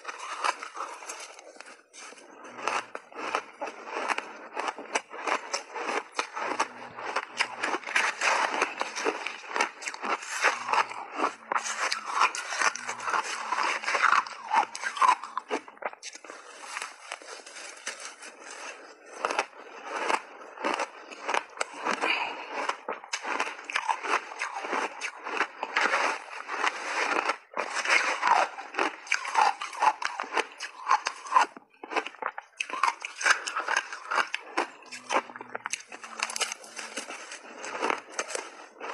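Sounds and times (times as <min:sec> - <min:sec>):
chewing shaved ice: 0:00.0 - 0:38.9.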